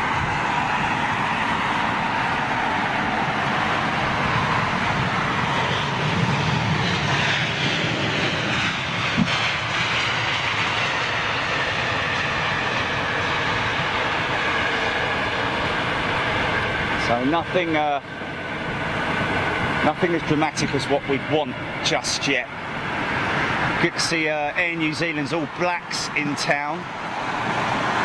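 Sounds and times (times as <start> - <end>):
jet airliner engines passing: 0.0 - 28.0.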